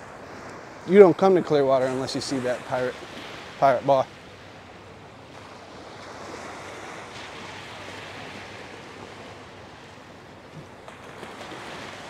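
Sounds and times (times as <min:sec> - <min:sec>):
small waves washing on sand: 0:00.0 - 0:12.0.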